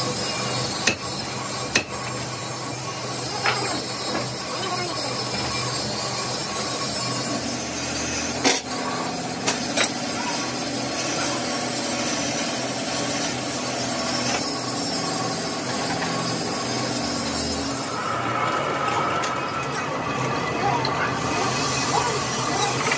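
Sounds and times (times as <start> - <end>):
machine shop noise: 0.0 - 22.9.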